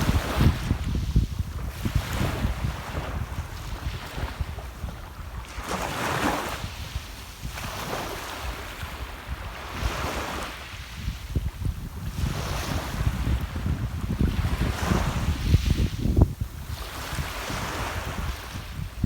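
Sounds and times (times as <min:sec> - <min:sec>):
sea waves washing onto shore: 0:00.0 - 0:19.0
wind rumbling on microphone: 0:00.0 - 0:19.0.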